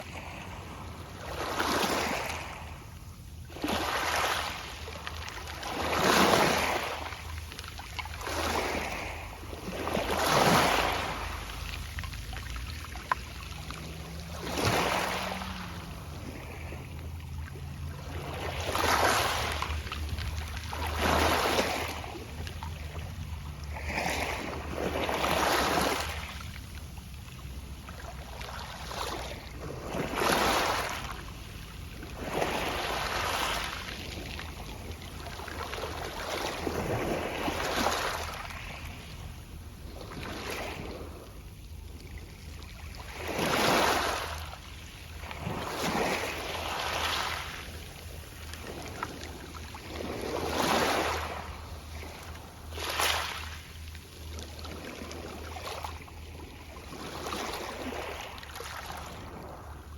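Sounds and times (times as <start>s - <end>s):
small waves breaking on pebbles: 0.0s - 2.8s, 3.4s - 41.4s, 42.0s - 59.9s.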